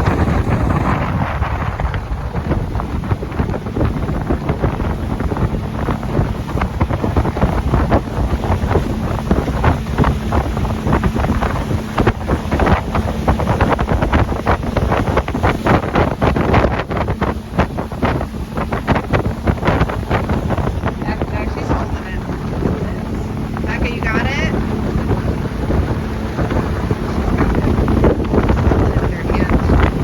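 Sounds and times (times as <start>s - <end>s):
faint boat engine drone: 0.0s - 30.0s
rumble: 0.0s - 30.0s
wind buffeting microphone: 0.0s - 30.0s.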